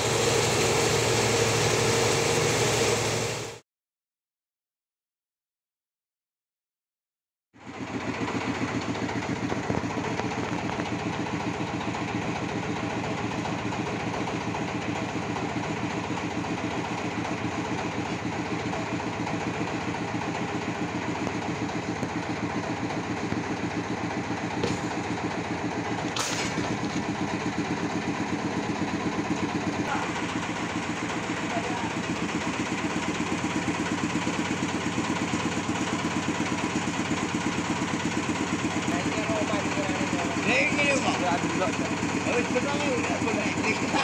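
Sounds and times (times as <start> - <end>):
sawmill engine running: 0.0 - 3.6, 7.6 - 44.0.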